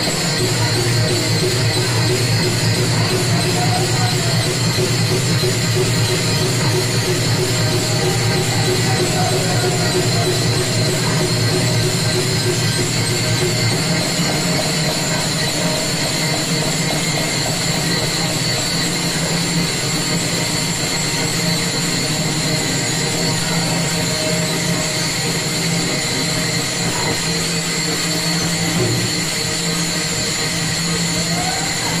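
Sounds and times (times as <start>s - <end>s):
hand cymbals jingling: 0.0s - 32.0s.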